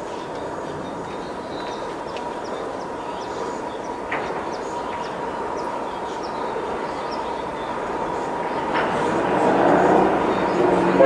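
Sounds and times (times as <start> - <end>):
birds chirping: 0.0 - 11.0
train rumble: 0.0 - 11.0.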